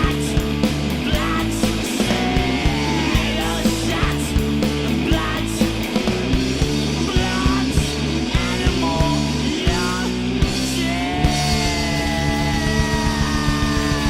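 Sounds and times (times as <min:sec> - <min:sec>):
drums hitting: 0:00.0 - 0:14.0
rock band playing live: 0:00.0 - 0:14.0.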